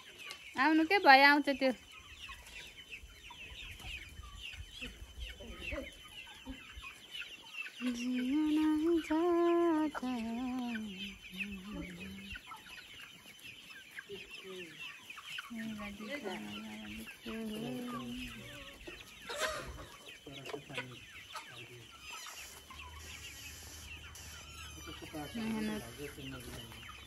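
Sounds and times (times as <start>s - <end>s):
chicken calls: 0.0s - 27.0s
chickens clucking: 0.0s - 27.0s.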